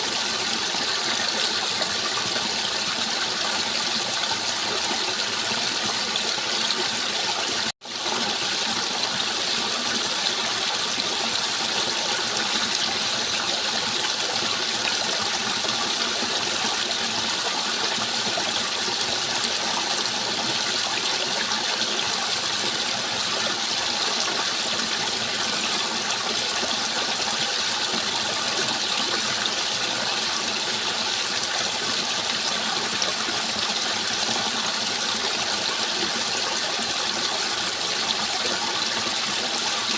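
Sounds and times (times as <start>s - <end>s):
rush of flowing water: 0.0s - 39.9s.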